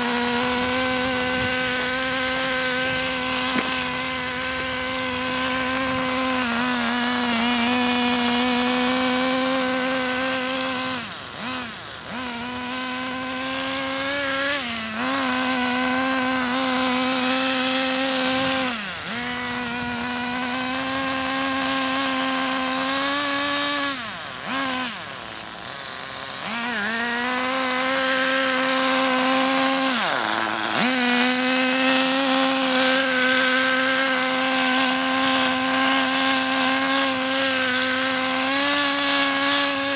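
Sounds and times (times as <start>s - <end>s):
nitro engine revving: 0.0s - 39.9s.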